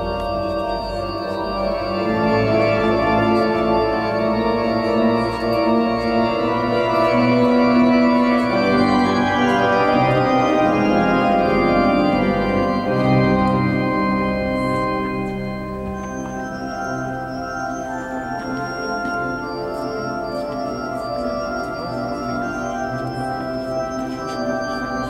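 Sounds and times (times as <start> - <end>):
pipe organ playing full chords: 0.0 - 25.0.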